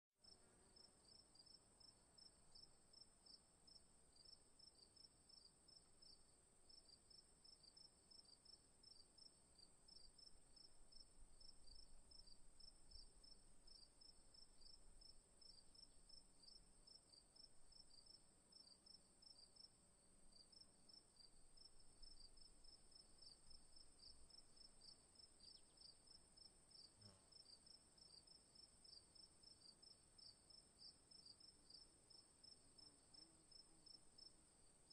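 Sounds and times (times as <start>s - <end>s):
faint insect chorus: 0.2s - 34.9s.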